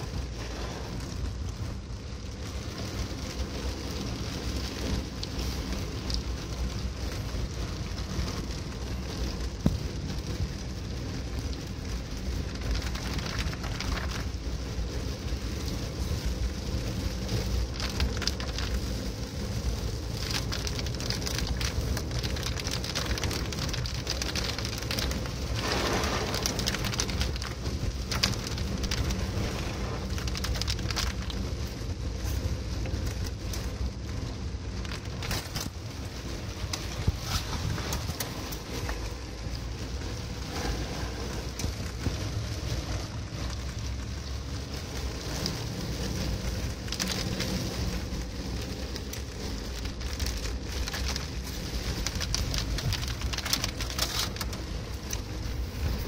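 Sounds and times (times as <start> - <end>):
car driving rumble: 0.0 - 56.0
heavy rain on a car: 0.0 - 56.0.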